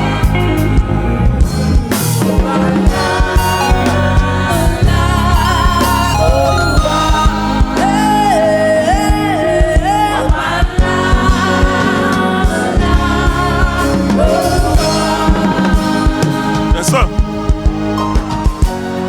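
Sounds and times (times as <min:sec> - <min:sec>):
band accompaniment: 0:00.0 - 0:19.0
gospel choir singing: 0:00.0 - 0:19.0
steady drum beat: 0:00.0 - 0:19.0
wavering vocal line: 0:00.0 - 0:19.0.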